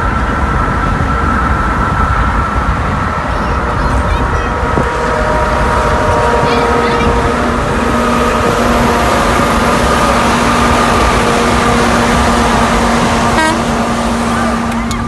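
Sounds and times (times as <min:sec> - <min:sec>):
low drone: 0:00.0 - 0:15.0
road and wind noise in car: 0:00.0 - 0:15.0.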